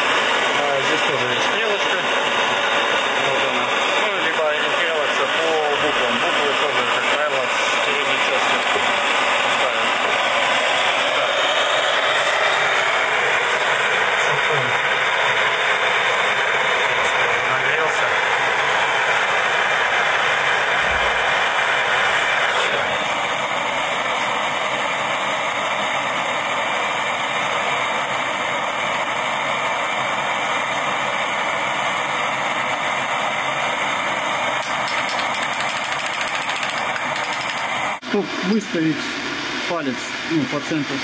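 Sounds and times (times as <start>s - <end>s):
gas torch hissing: 0.0s - 39.5s.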